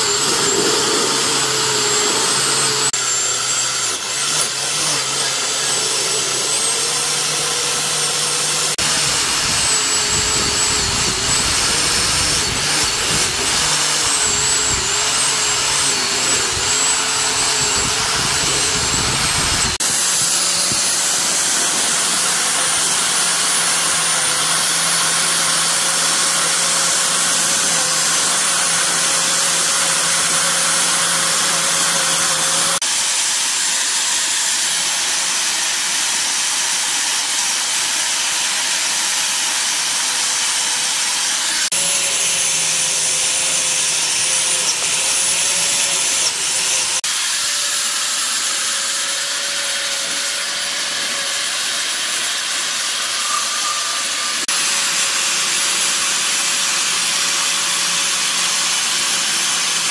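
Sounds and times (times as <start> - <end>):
power tool whirring: 0.0 - 59.9.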